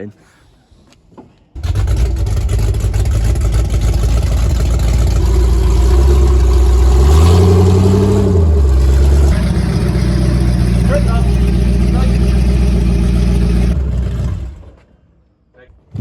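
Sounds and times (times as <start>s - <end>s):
car engine starting and running: 1.6s - 15.0s.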